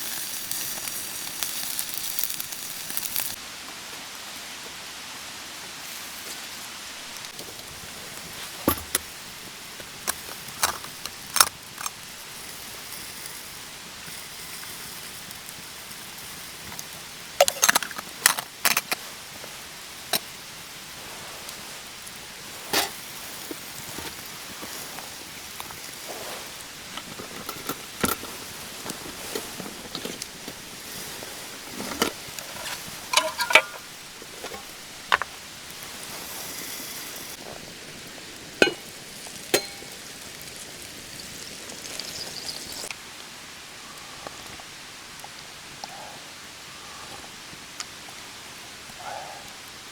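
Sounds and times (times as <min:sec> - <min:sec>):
rain hiss: 0:00.0 - 0:49.9.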